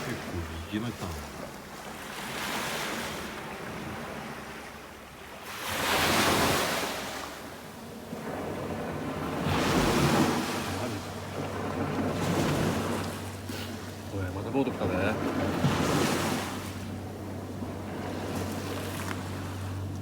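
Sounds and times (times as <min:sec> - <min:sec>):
waves washing up a beach: 0:00.0 - 0:19.9.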